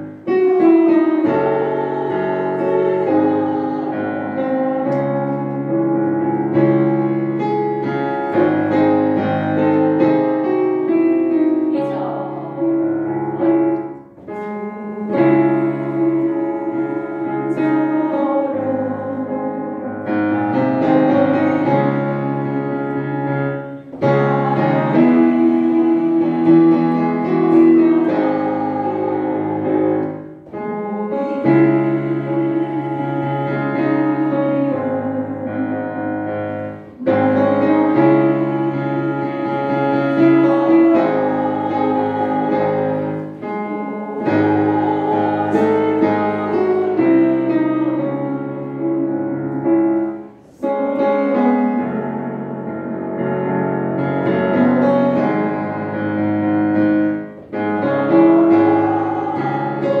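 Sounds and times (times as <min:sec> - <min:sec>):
piano playing slow art song: 0:00.0 - 1:00.0.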